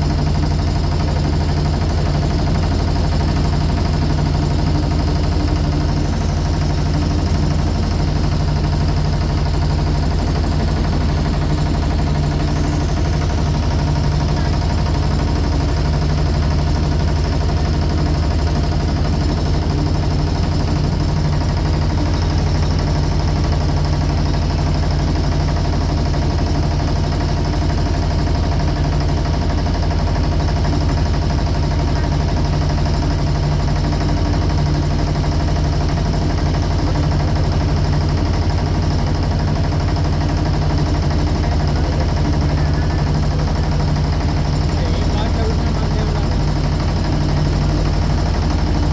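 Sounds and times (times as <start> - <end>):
motorboat engine humming: 0.0 - 48.9.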